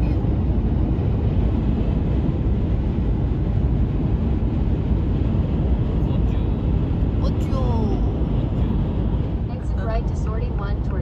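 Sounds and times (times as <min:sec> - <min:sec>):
road and tyre noise in car: 0:00.0 - 0:11.0.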